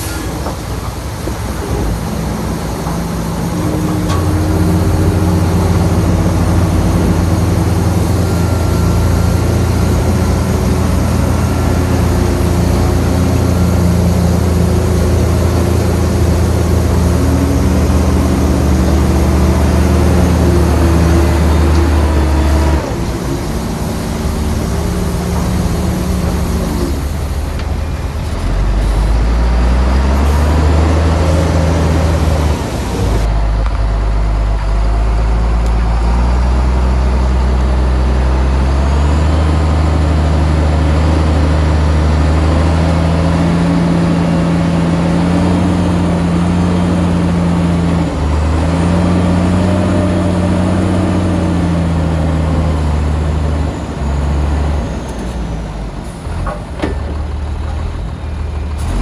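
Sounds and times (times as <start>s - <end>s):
bulldozer diesel engine droning: 0.0s - 59.0s.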